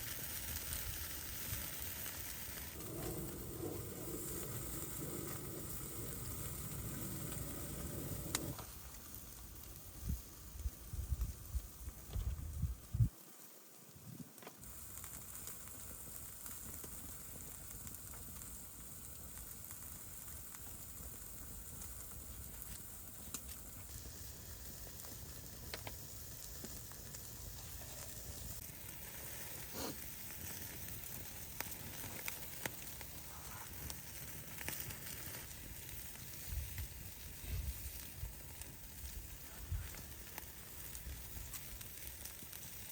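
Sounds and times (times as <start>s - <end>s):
food sizzling: 0.0s - 42.9s
small pops and crackles: 0.0s - 42.9s.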